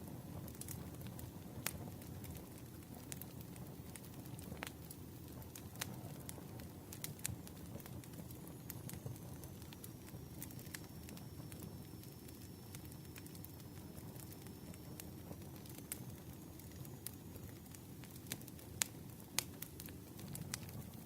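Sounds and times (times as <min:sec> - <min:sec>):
low rumble of flames: 0:00.0 - 0:21.0
burning wood popping and crackling: 0:00.1 - 0:21.0.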